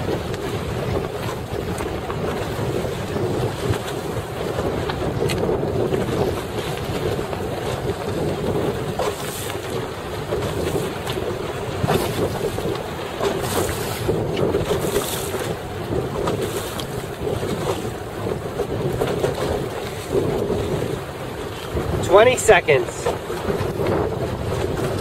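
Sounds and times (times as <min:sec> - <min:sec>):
waves splashing: 0:00.0 - 0:25.0
wind buffeting microphone: 0:00.0 - 0:25.0.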